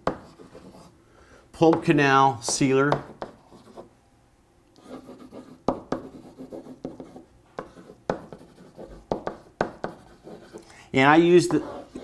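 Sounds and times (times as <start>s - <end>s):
marker scratching on whiteboard: 0.0s - 0.9s, 1.7s - 3.9s, 4.8s - 12.0s.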